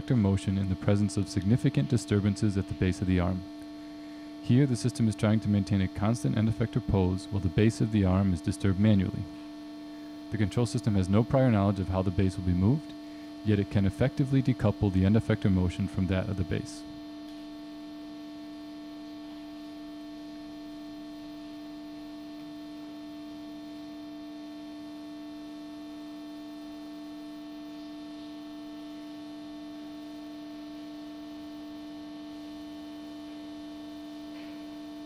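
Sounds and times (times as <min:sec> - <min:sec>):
steady hum with overtones: 0:00.0 - 0:35.0.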